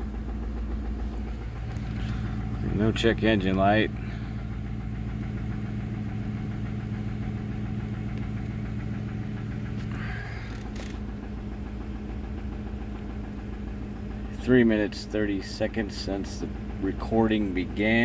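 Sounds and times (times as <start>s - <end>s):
engine idling with knocking: 0.0s - 18.0s.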